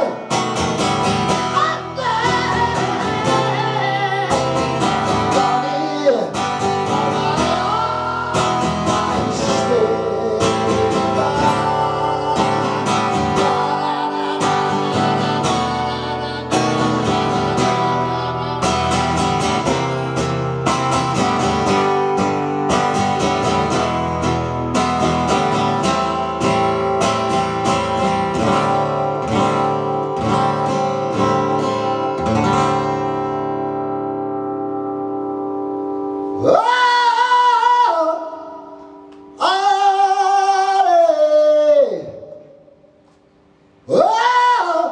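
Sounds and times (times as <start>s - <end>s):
acoustic guitar strumming: 0.0s - 40.6s.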